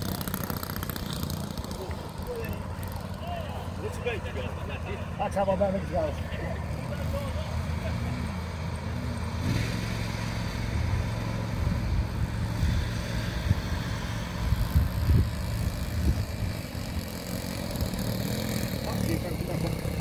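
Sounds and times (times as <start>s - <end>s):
model plane engine idling: 0.0s - 20.0s.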